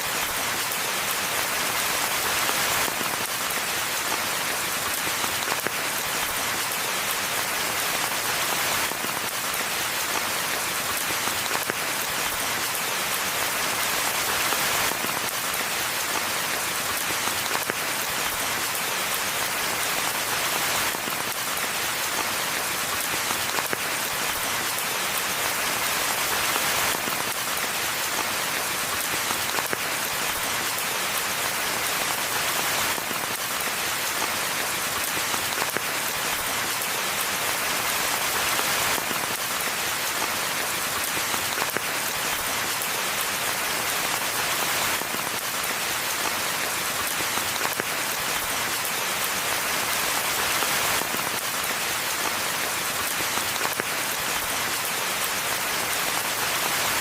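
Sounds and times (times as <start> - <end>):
rain falling in a forest: 0.0 - 57.0.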